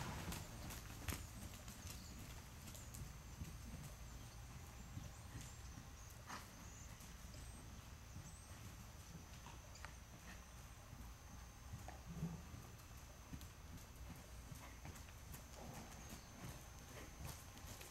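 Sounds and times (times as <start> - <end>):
muffled horse hoofbeats on sand: 0.0 - 17.9.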